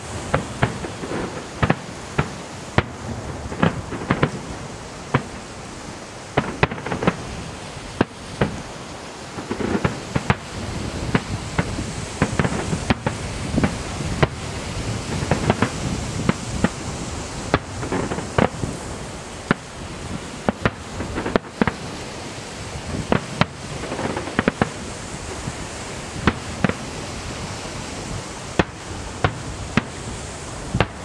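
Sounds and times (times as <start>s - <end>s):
firework shells bursting: 0.0s - 5.6s, 6.3s - 8.7s, 9.4s - 25.4s, 26.1s - 27.5s, 28.1s - 31.0s.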